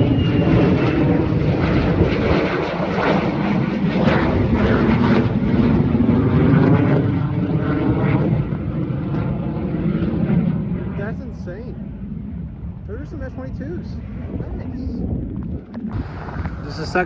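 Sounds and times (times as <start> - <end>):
jet aircraft passing by: 0.0 - 17.0.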